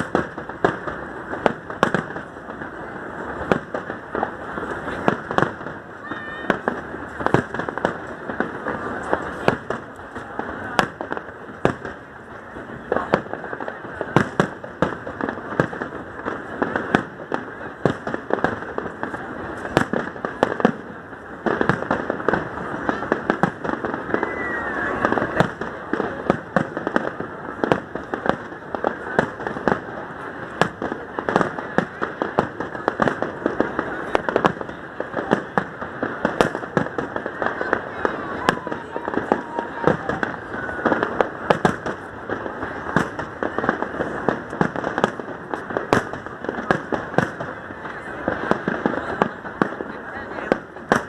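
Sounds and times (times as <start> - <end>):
fireworks bangs and pops: 0.0 - 51.0.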